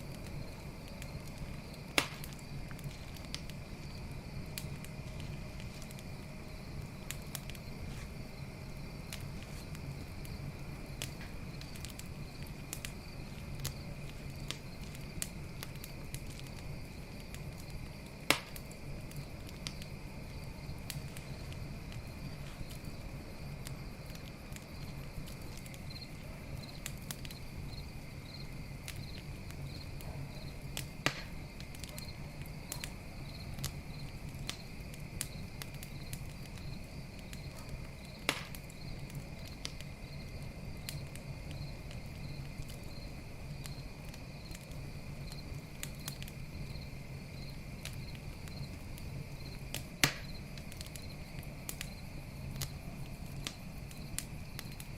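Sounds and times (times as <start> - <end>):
campfire crackling: 0.0 - 54.9
crickets chirping: 0.0 - 54.9
sharp pops of fire: 0.0 - 54.9.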